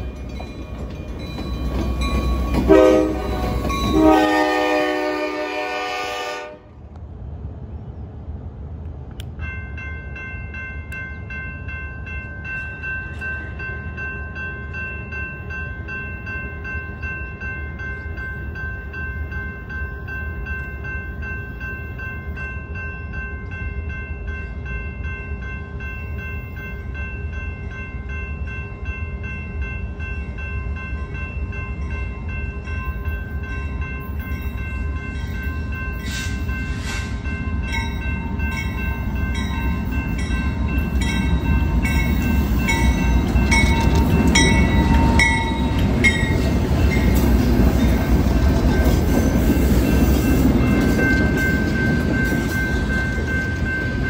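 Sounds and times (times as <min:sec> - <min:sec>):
freight train rumble: 0:00.0 - 0:54.0
high ringing tones: 0:09.4 - 0:54.0.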